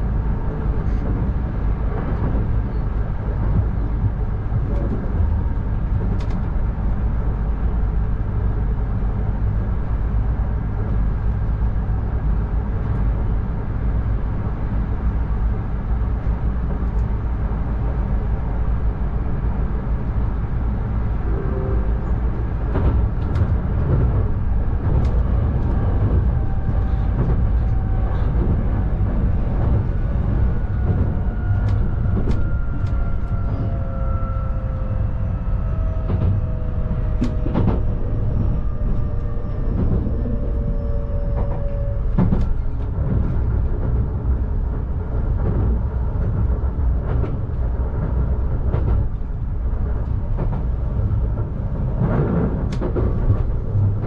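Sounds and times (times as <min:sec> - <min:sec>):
rail joint clicks and knocks: 0:00.0 - 0:54.0
train wheels rumbling on rail: 0:00.0 - 0:54.0.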